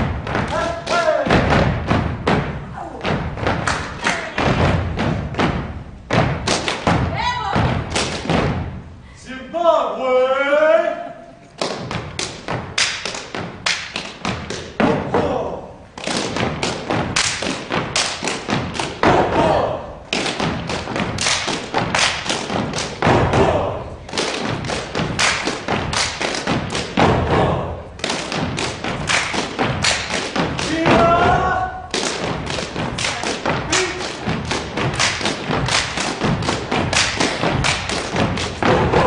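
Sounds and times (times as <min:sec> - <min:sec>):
boots stomping and slapping: 0:00.0 - 0:08.7, 0:16.0 - 0:39.0.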